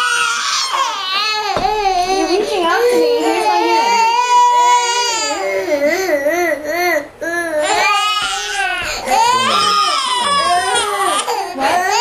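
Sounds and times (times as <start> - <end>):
toddlers crying and wailing: 0.0 - 12.0.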